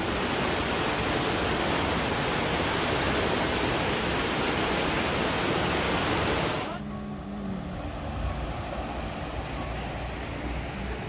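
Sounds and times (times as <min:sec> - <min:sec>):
river rushing under bridge: 0:00.0 - 0:11.0.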